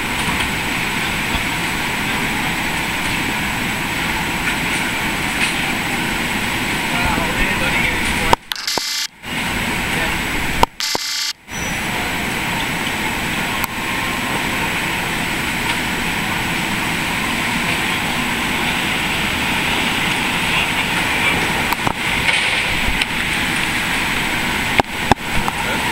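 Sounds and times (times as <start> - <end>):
light-rail car passing: 0.0 - 8.4, 11.4 - 25.9.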